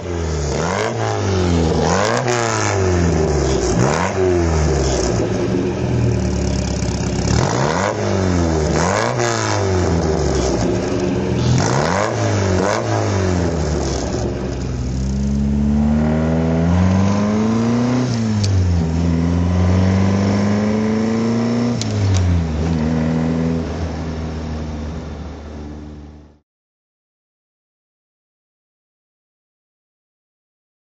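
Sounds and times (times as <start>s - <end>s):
car engine revving: 0.0s - 26.4s.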